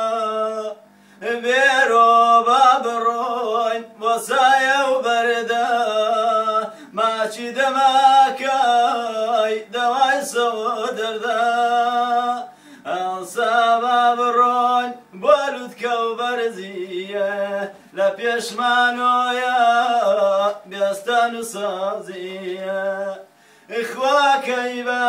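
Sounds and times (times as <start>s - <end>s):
man singing unaccompanied: 0.0s - 25.0s.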